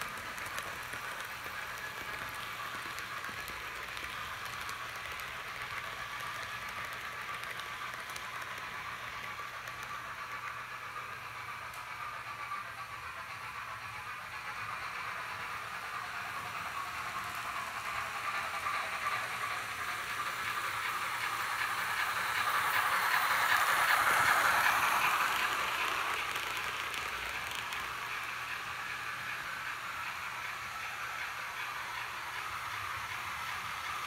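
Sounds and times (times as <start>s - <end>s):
model train rolling on track: 0.0s - 34.0s.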